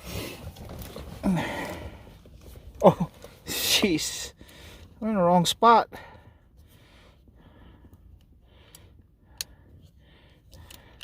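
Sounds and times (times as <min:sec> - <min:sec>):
soft breathing: 0:00.0 - 0:03.5, 0:04.3 - 0:05.0, 0:05.9 - 0:11.0.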